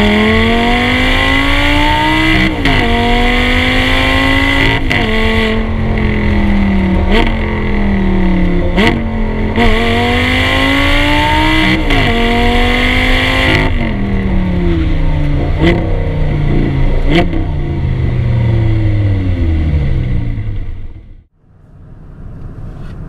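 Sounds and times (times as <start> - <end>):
sports car exhaust revving: 0.0 - 23.0.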